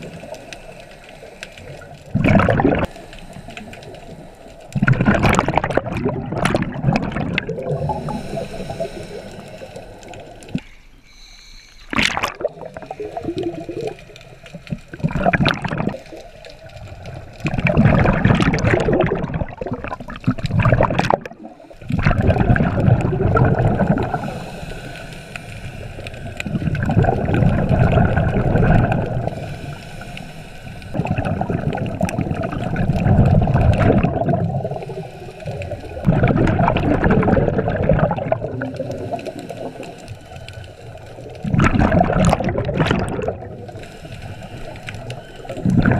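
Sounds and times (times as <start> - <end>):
gurgling exhaled bubbles: 0.0 - 10.6, 11.9 - 45.9.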